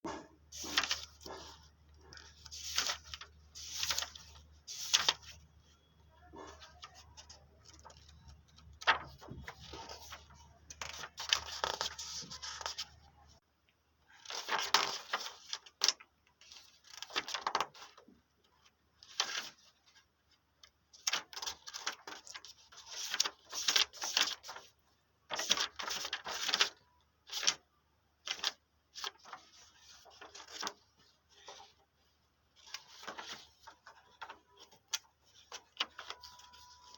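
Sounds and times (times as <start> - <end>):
notebook pages turning: 0.1 - 5.4, 6.4 - 13.0, 14.2 - 18.0, 21.0 - 27.6, 28.3 - 31.8, 32.6 - 36.9.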